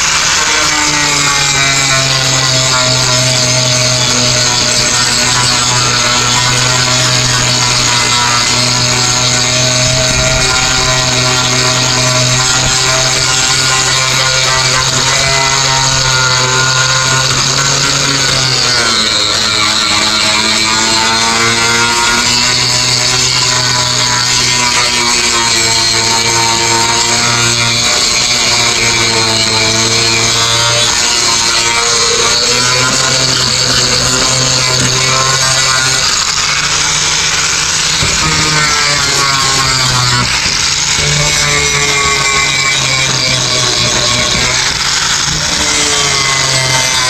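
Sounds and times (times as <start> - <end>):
power sander whining: 0.0 - 47.0.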